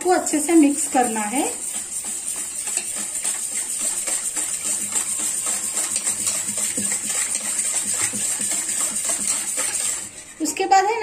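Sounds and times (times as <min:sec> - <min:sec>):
whisk beating in metal bowl: 0:00.0 - 0:11.0.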